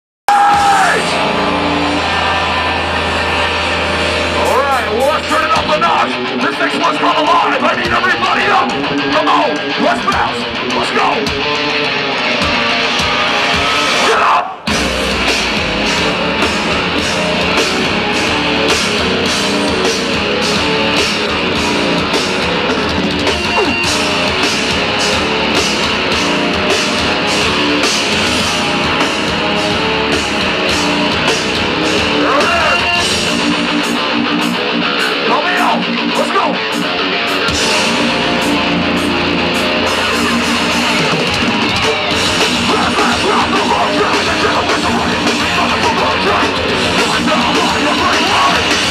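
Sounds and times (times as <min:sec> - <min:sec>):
metal band playing live: 0:00.3 - 0:48.9.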